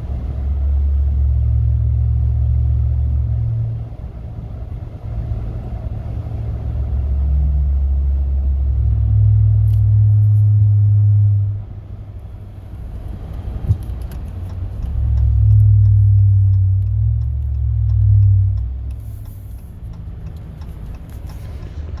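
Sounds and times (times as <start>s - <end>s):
low droning cab hum: 0.0s - 22.0s.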